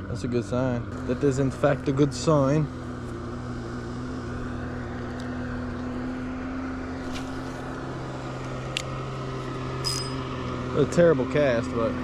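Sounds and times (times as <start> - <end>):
steady engine drone: 0.0 - 12.0.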